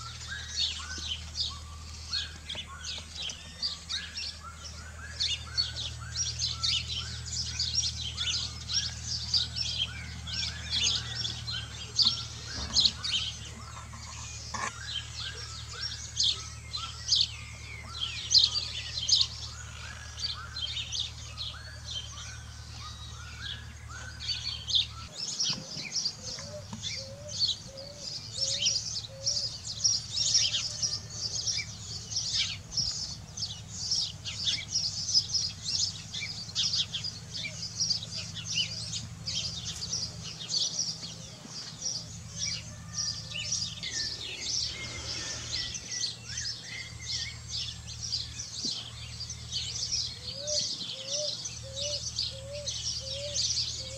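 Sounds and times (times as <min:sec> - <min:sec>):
birds chirping: 0:00.0 - 0:53.9
low bird notes: 0:00.0 - 0:53.9
repeated low bird call: 0:00.0 - 0:53.9.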